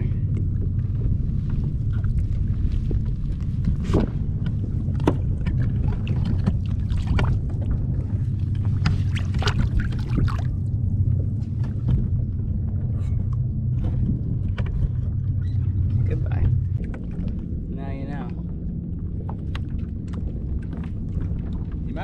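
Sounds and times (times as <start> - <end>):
low rumble: 0.0 - 22.0
water lapping against kayak hull: 0.0 - 22.0.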